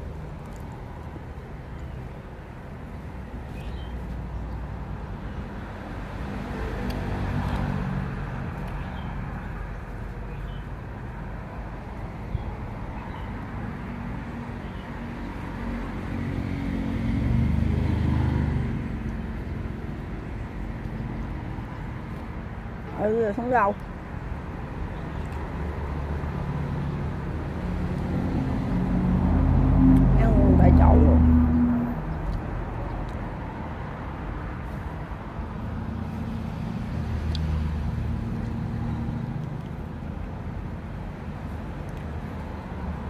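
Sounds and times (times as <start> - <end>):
low rumble of road traffic: 0.0 - 43.0
passing vehicle engines: 0.0 - 43.0.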